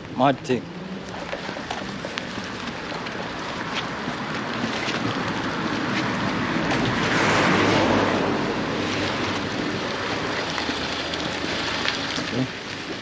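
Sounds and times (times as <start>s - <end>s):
heavy rain falling: 1.6s - 13.0s.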